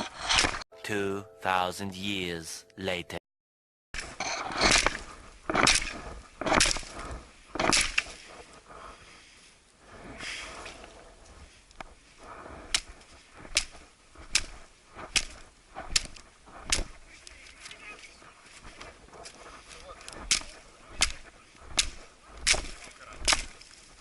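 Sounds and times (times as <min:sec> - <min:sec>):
firewood cracking: 0:04.0 - 0:24.0.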